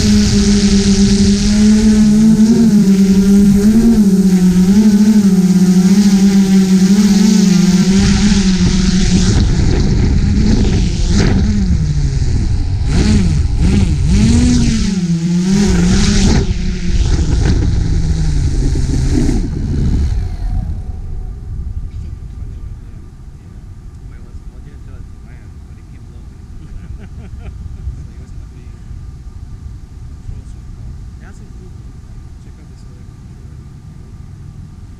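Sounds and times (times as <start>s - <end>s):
drone motors whining: 0.0s - 33.1s
wind buffeting microphone: 0.0s - 34.9s.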